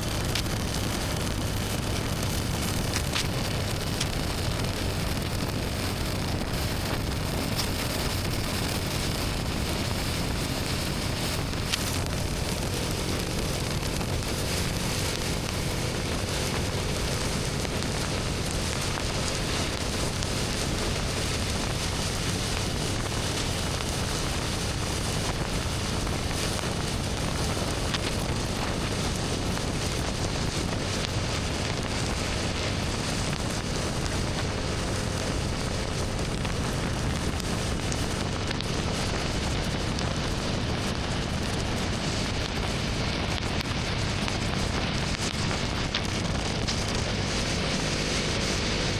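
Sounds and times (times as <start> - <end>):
motorcycle engine running: 0.0 - 48.9
wind rush over microphone: 0.0 - 48.9.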